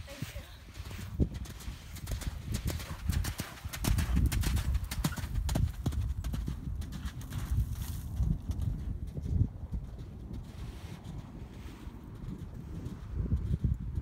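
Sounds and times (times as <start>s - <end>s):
horse hooves thudding on sand: 0.0s - 14.0s.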